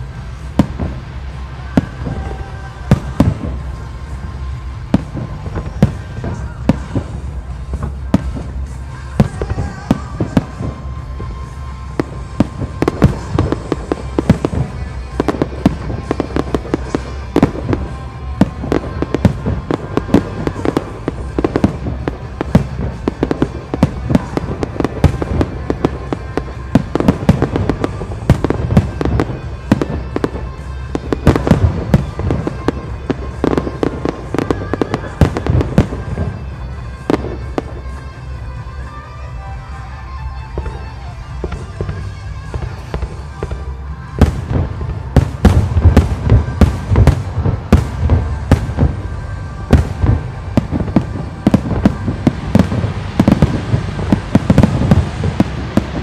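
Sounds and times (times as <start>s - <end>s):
continuous low rumble: 0.0s - 56.0s.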